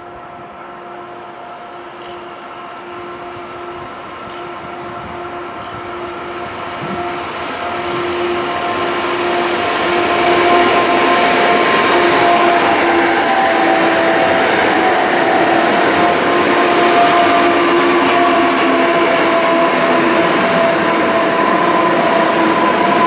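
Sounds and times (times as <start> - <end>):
electric train whine: 0.0 - 23.0
wheel and rail noise: 0.0 - 23.0.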